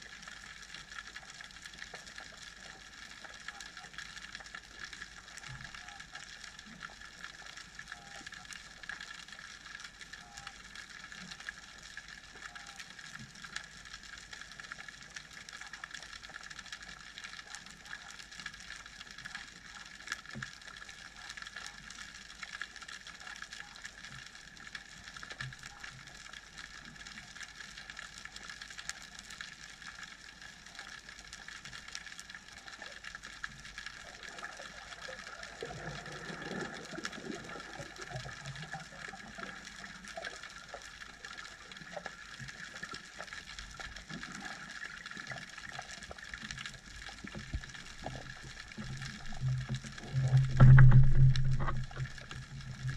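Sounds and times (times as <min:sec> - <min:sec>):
faint constant tone: 0:00.0 - 0:52.9
faint crackling clicks: 0:00.0 - 0:52.9.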